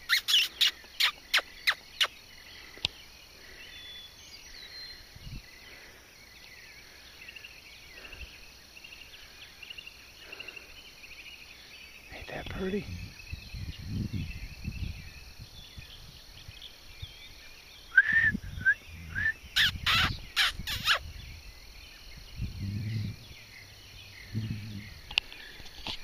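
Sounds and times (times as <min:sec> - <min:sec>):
bird chirps: 0:00.0 - 0:26.0
harsh bird calls: 0:00.0 - 0:26.0
insects trilling: 0:00.0 - 0:26.0.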